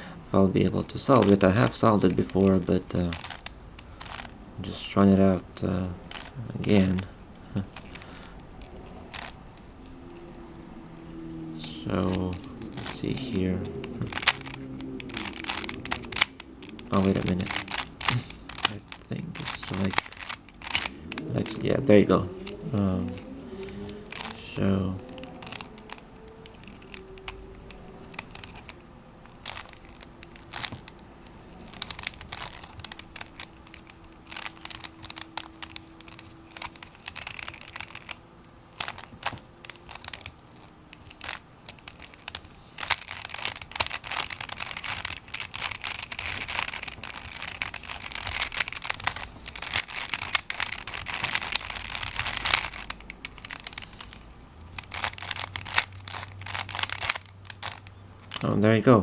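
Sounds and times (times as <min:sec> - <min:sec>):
puzzle cube clicking and rattling: 0:00.0 - 0:58.6.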